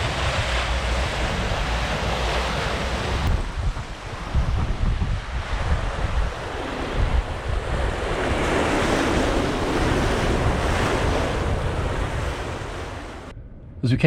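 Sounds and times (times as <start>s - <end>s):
water rushing past hull: 0.0s - 13.3s
wind buffeting microphone: 0.0s - 14.0s.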